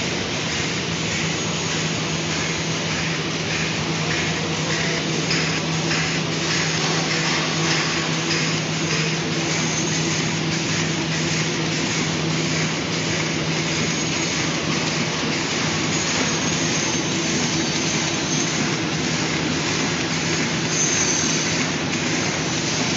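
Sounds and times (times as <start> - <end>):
machine clatter: 0.0 - 22.9
machine motor hum: 0.0 - 22.9.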